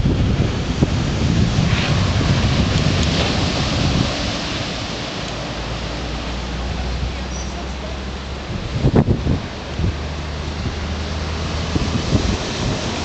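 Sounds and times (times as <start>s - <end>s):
strong wind on microphone: 0.0s - 7.3s, 8.2s - 13.0s
surf breaking on seawall: 0.0s - 13.0s.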